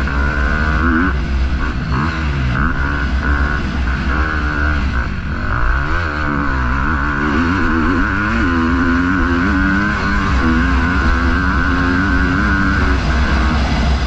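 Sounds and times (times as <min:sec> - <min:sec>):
motocross engine revving: 0:00.0 - 0:14.0.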